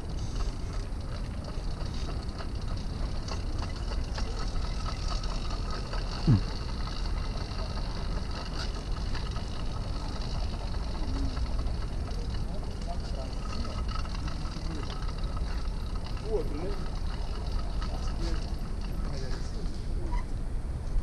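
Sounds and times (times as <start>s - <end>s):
motorized bicycle rumbling: 0.0s - 21.0s.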